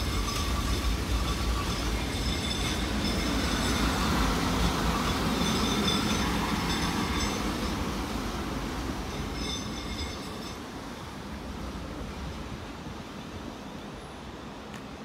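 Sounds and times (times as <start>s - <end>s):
rumble of train wheels on rails: 0.0s - 15.0s.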